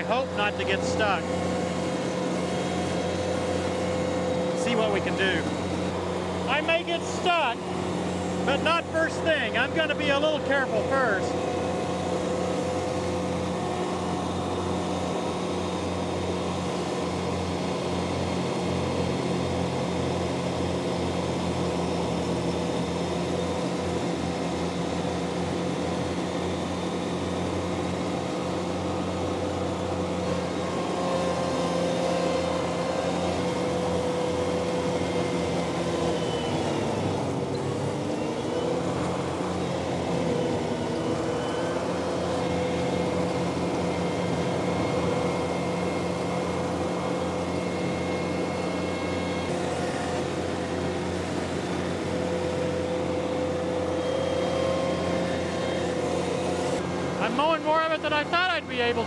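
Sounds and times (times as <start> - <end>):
mower cutting grass: 0.0 - 59.0
tractor engine running: 0.0 - 59.0.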